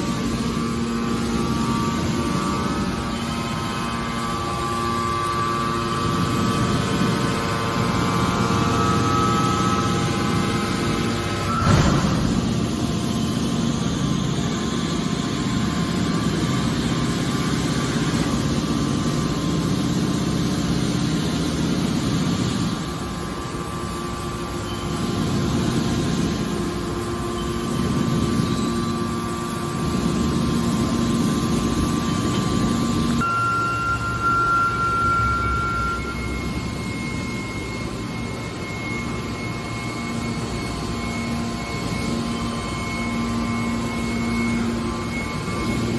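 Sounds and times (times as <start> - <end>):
hydraulic baler drone: 0.0 - 45.9.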